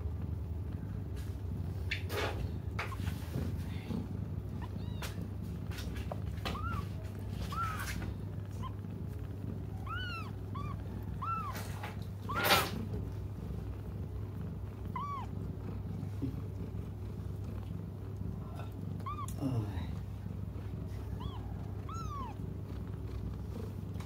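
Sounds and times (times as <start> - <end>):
kittens mewing: 1.7 - 24.0.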